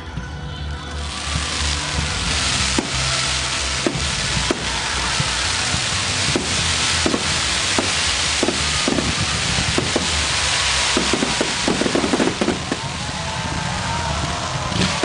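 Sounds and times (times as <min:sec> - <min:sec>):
fireworks crackling hiss: 0:00.9 - 0:15.0
fireworks sharp bangs: 0:01.0 - 0:15.0.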